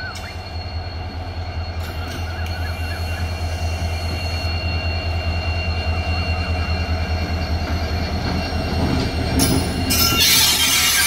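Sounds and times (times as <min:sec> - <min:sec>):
diesel locomotive engine throbbing: 0:00.0 - 0:11.0
wheel and rail noise: 0:00.0 - 0:11.0.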